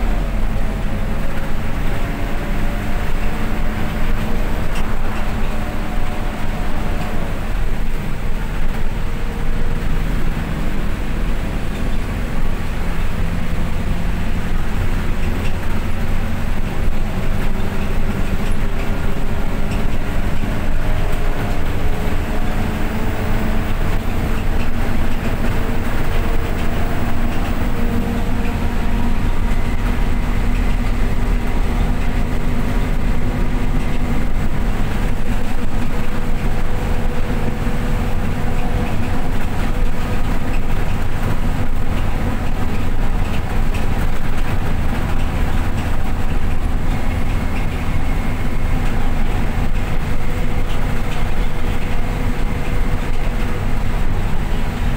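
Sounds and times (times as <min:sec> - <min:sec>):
vehicle interior running rumble: 0:00.0 - 0:54.9.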